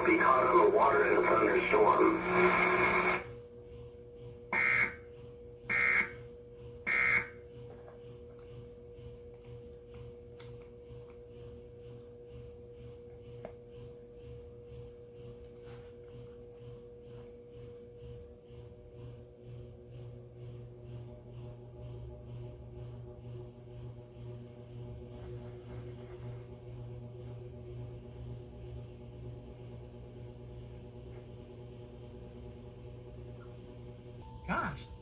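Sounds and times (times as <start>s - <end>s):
faint pulsing hum: 0.0s - 35.0s.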